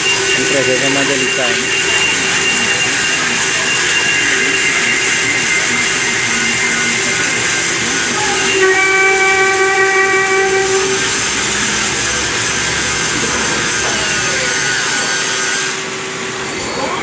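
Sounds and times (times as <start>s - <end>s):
lathe machining hiss: 0.0s - 16.6s
high whistling squeal: 0.0s - 17.0s.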